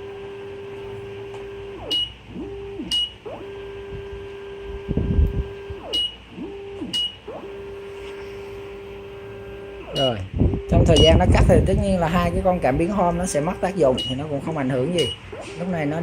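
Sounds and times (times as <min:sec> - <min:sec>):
servo motors whining: 0:00.0 - 0:16.0.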